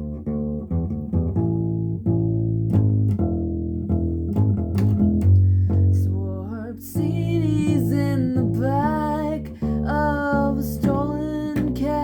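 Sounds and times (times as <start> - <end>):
low bass line: 0.0 - 12.0
plucked guitar notes: 0.0 - 12.0.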